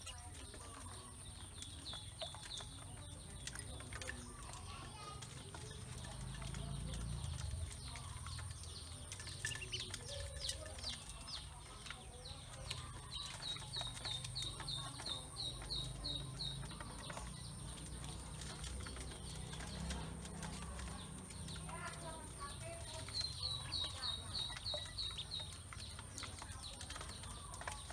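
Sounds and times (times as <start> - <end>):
bills pecking metal bowl: 0.0 - 27.9
ducklings peeping: 0.0 - 27.9.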